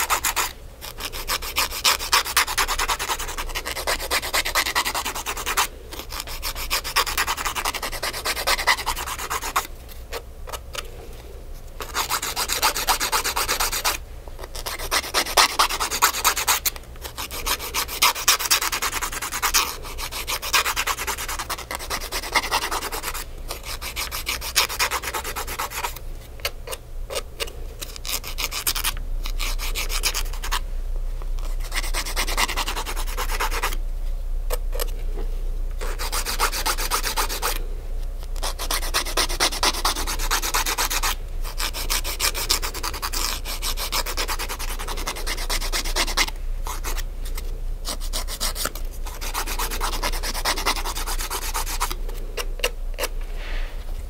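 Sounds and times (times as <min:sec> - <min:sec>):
nail file filing fingernails: 0:00.0 - 0:10.8, 0:11.8 - 0:26.0, 0:26.6 - 0:30.6, 0:31.4 - 0:33.8, 0:35.8 - 0:37.6, 0:38.4 - 0:53.1.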